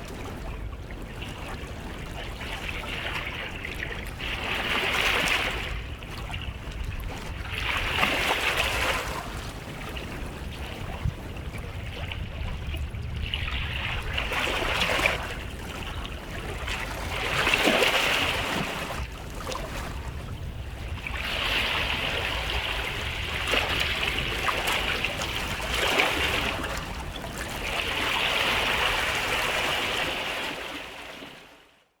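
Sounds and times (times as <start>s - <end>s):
small waves washing onto beach: 0.0s - 31.8s.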